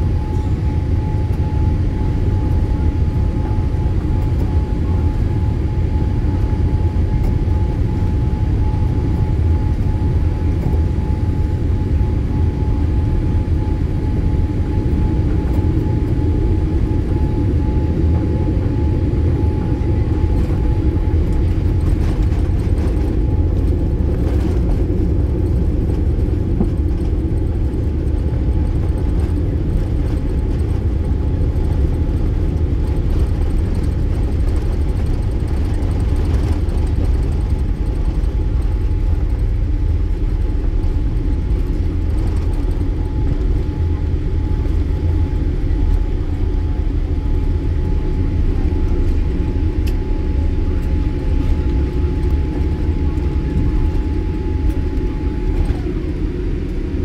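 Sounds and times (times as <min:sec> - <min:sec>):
airliner low rumble: 0:00.0 - 0:57.0
thin steady whine: 0:00.0 - 0:57.0.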